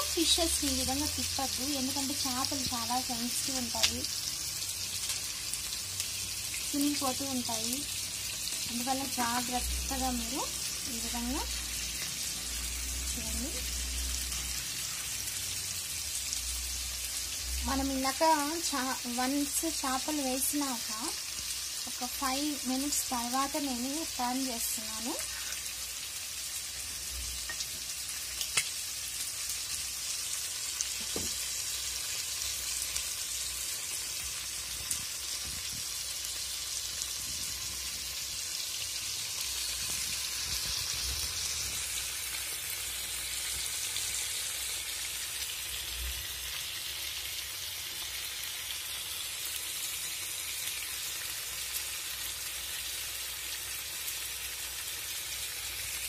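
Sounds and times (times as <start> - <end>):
fish sizzling in pan: 0.0 - 56.0.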